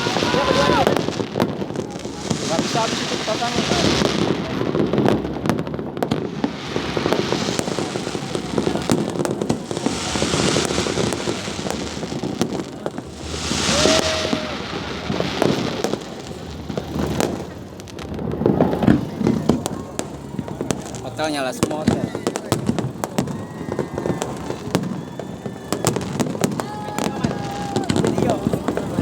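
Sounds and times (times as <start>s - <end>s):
fireworks popping and crackling: 0.0s - 29.0s
hissing crackle of bursting shells: 0.0s - 29.0s
loud firework bangs: 0.0s - 29.0s.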